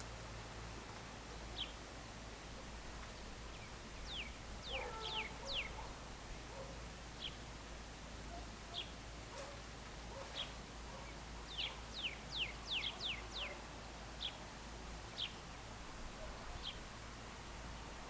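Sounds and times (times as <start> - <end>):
low steady background hum: 0.0 - 18.0
wild birds chirping: 0.0 - 18.0.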